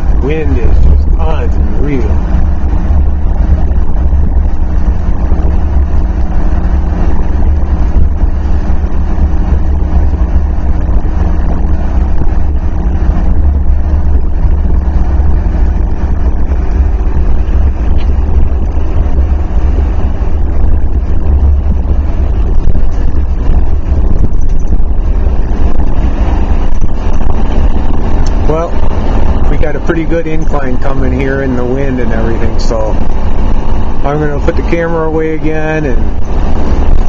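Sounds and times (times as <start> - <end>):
road and wind noise: 0.0 - 37.0
vehicle rumble from inside cab: 0.0 - 37.0.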